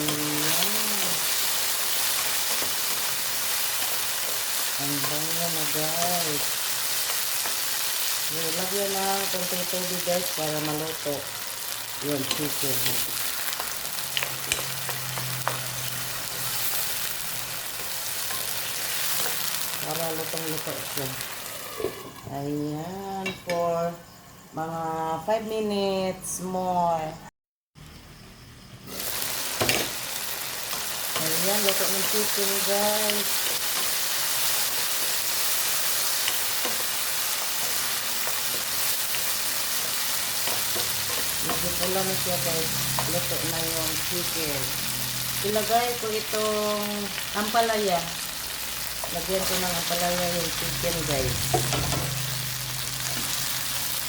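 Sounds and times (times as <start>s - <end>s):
chicken sizzling in hot oil: 0.0s - 22.0s, 28.9s - 54.0s.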